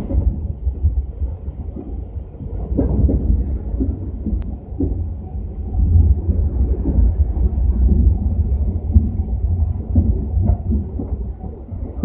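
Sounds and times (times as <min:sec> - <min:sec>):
train coach rumble: 0:00.0 - 0:12.0.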